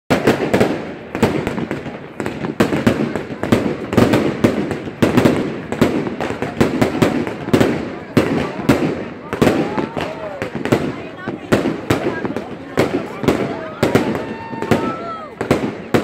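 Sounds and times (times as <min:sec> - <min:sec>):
fireworks bangs and crackles: 0:00.1 - 0:16.0.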